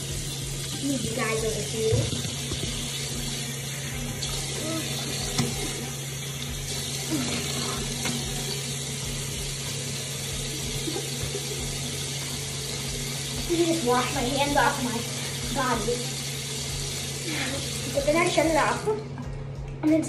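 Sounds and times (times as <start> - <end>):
faucet running: 0.0 - 19.1.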